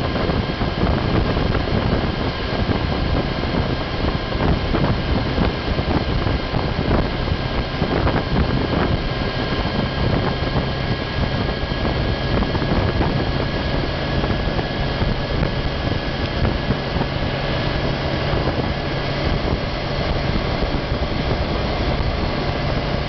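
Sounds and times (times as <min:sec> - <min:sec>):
motorcycle engine hum: 0:00.0 - 0:23.0
wind noise: 0:00.0 - 0:23.0.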